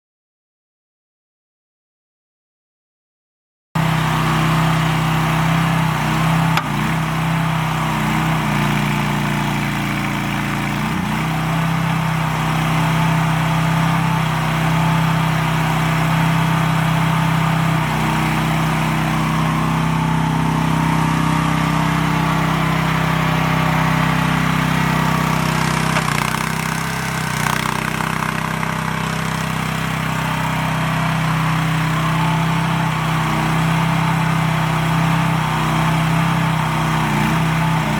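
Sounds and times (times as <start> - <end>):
mini excavator engine running: 3.8 - 37.9.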